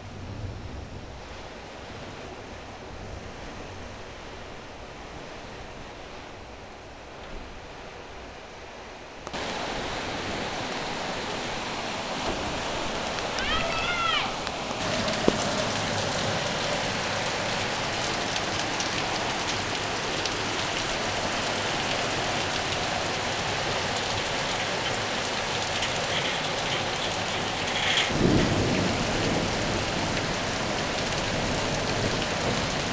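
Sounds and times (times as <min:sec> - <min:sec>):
heavy rain pouring: 0:00.0 - 0:32.9
wind: 0:00.0 - 0:32.9.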